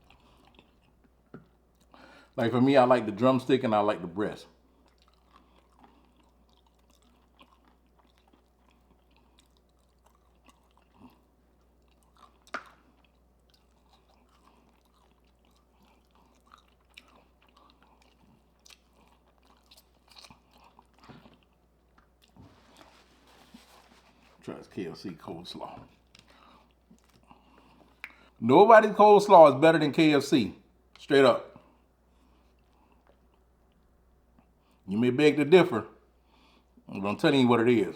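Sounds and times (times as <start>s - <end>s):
chewing with crunches: 0.0s - 28.4s, 31.6s - 34.9s.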